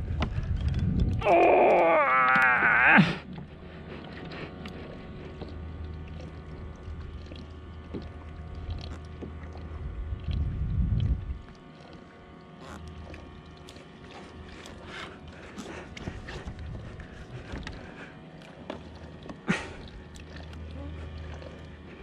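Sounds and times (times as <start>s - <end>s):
water and wind rumble: 0.0s - 22.0s.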